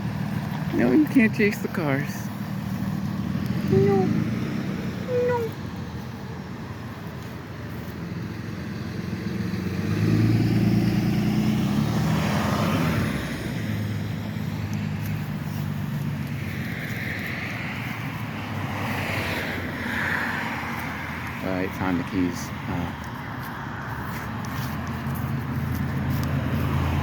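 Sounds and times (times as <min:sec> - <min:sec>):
vehicles driving past: 0:00.0 - 0:27.0.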